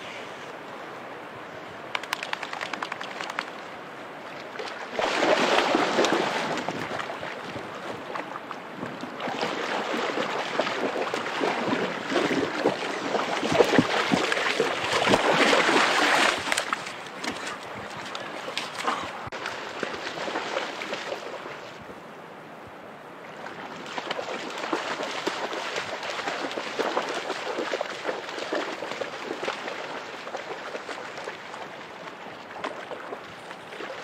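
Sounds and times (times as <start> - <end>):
dog wading through stream: 1.9 - 21.8, 23.2 - 34.0.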